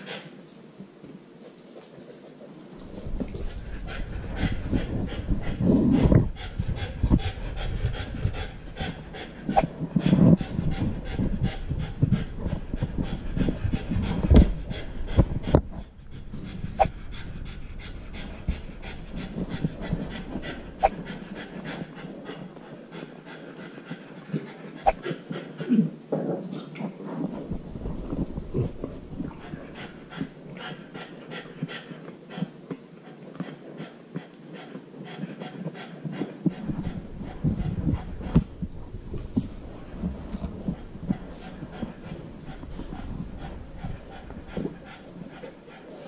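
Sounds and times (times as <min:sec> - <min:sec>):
puppy panting: 0:02.8 - 0:25.7, 0:27.6 - 0:46.0.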